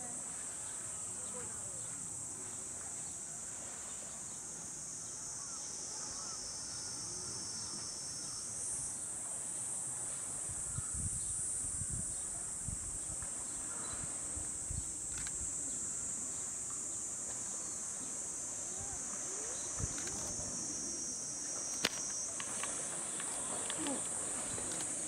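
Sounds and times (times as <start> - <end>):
cicadas droning: 0.0 - 25.0.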